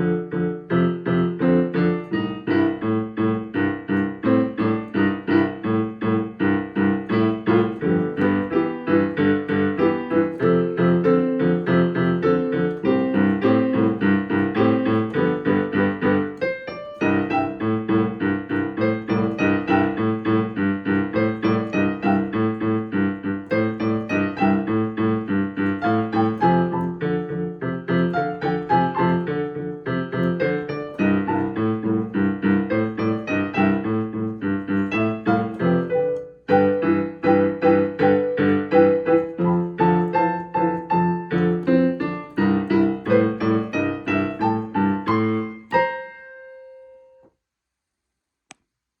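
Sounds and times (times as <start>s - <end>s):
boogie-woogie piano: 0.0s - 47.2s.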